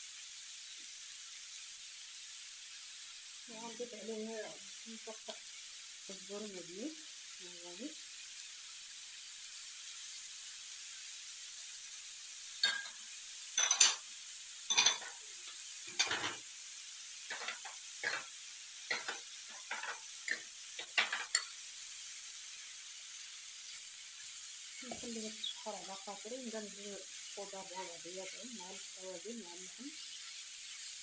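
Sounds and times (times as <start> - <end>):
food sizzling in frying pan: 0.0 - 31.0.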